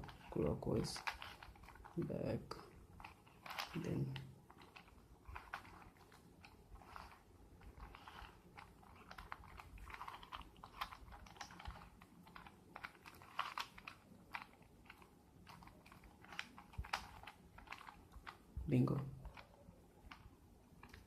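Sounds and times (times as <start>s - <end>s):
puzzle cube plastic clicks: 0.0s - 21.0s.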